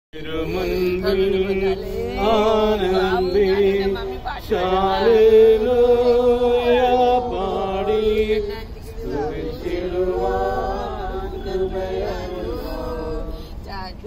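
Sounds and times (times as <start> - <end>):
voices singing a slow hymn: 0.2 - 14.0.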